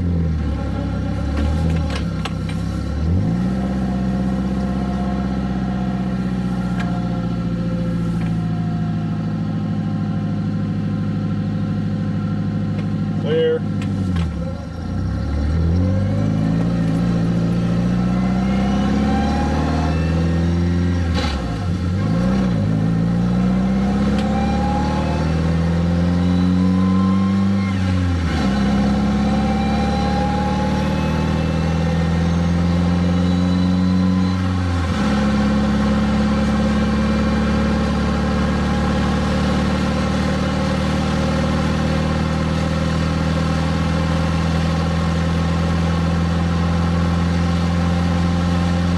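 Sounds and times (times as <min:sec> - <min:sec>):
car engine accelerating through gears: 0:00.0 - 0:48.9.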